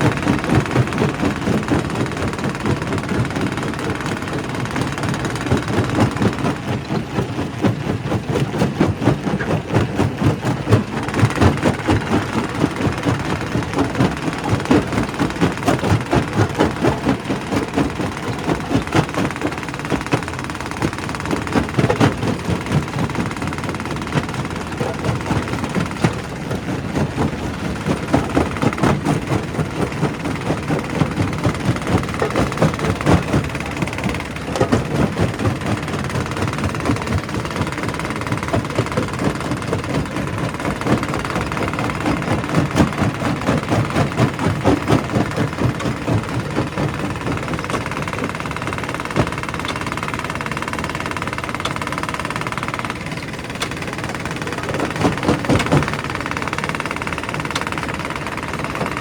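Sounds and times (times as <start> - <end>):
rock crusher running: 0.0 - 59.0.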